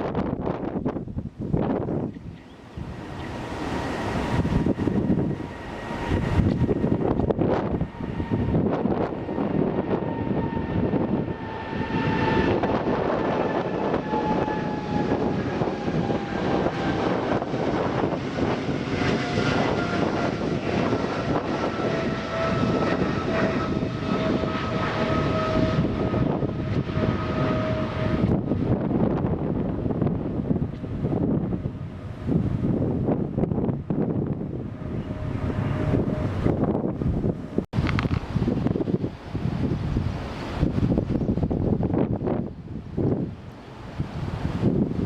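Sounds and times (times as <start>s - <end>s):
jet engines rushing and whining: 0.0s - 45.0s.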